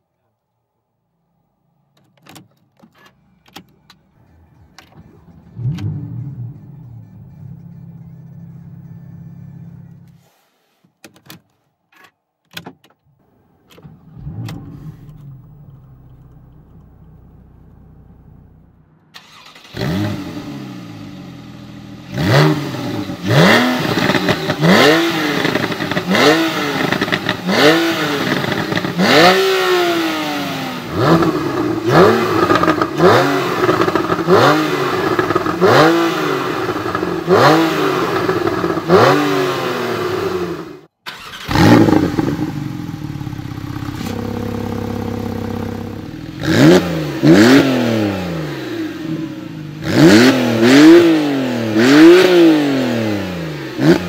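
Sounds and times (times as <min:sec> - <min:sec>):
car engine starting: 0:01.2 - 0:10.3, 0:13.1 - 0:54.0
car engine idling: 0:03.0 - 0:10.2, 0:13.1 - 0:39.1, 0:39.8 - 0:50.7
engine revving: 0:04.2 - 0:10.2, 0:13.8 - 0:54.0.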